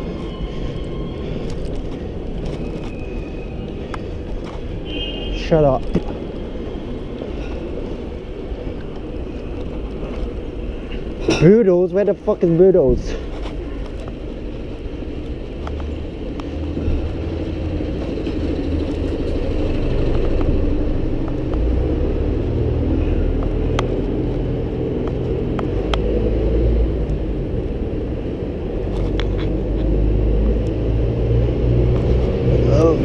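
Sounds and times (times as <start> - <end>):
road noise while cycling: 0.0 - 33.0.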